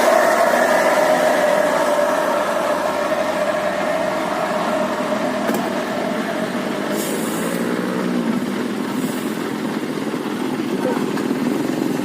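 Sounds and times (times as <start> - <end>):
heavy vehicle engines running: 0.0 - 12.0.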